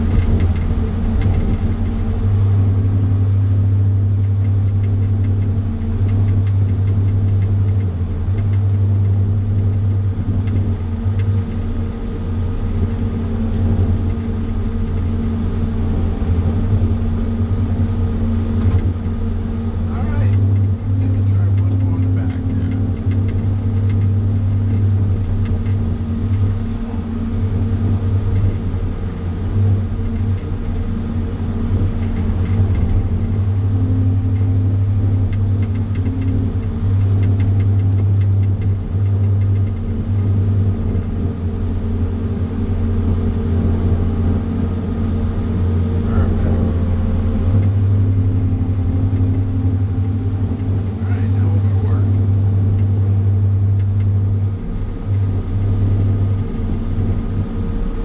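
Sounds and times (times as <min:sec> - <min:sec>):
engine running with low hum: 0:00.0 - 0:58.0.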